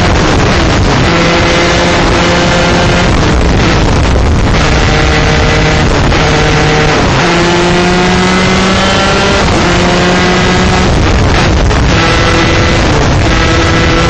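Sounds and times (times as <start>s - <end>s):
kart engine running hard: 0.0s - 14.0s.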